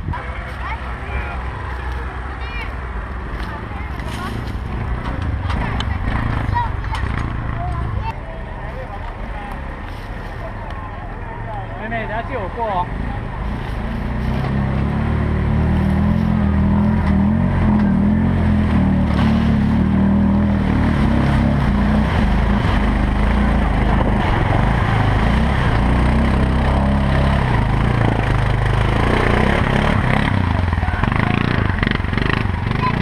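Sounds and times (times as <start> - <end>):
atv engine running: 0.0 - 33.0
constant rushing noise: 0.0 - 33.0.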